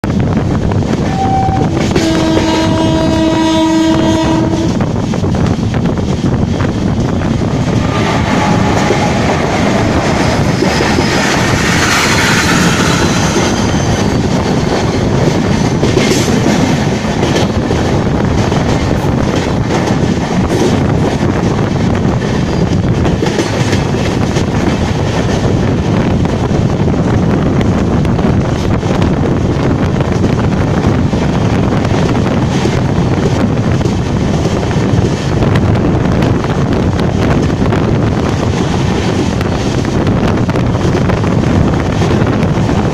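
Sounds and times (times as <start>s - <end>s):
passing freight train: 0.0s - 42.9s
train wheels clacking on rail joints: 4.2s - 42.9s
rush of air: 4.6s - 42.9s.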